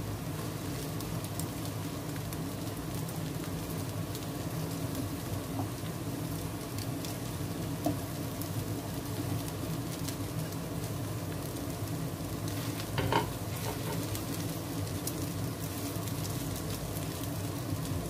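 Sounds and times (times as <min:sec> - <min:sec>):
omelette sizzling in pan: 0:00.0 - 0:18.0.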